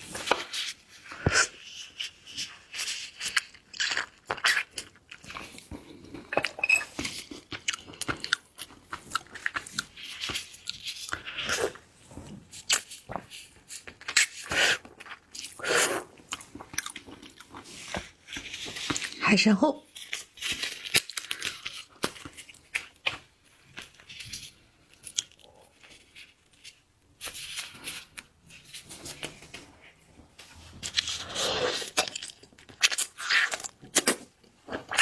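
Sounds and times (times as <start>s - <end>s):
chewing and crunching food: 0.0s - 19.2s, 19.9s - 35.0s.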